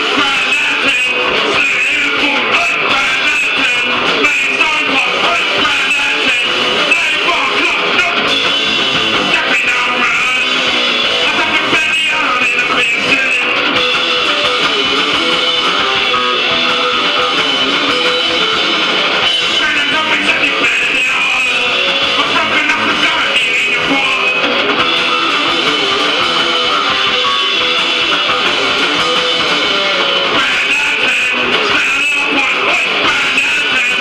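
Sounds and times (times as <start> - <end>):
hardcore punk song: 0.0 - 34.0
strummed electric guitar: 0.0 - 34.0.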